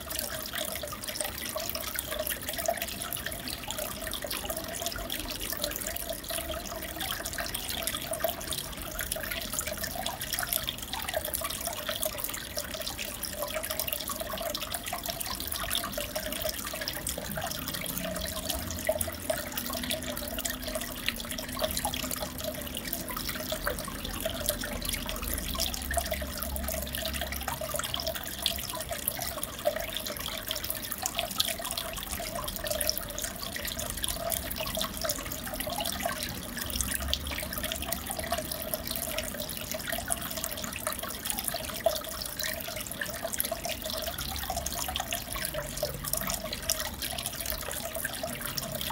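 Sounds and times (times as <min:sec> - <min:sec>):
aquarium water bubbling and splashing: 0:00.0 - 0:48.9.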